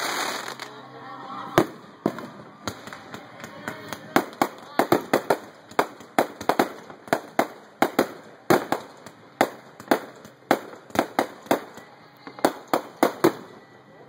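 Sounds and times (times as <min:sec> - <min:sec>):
fireworks banging: 0:00.0 - 0:00.8, 0:01.5 - 0:13.8.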